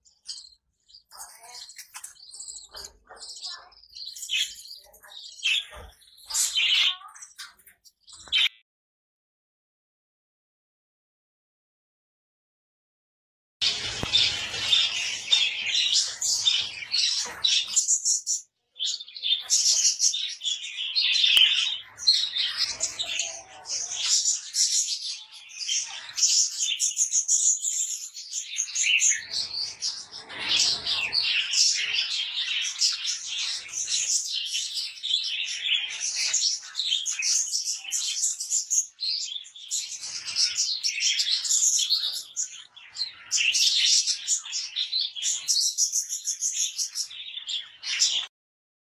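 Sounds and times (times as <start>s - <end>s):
budgerigars chattering and warbling: 0.1s - 8.6s, 13.6s - 48.3s.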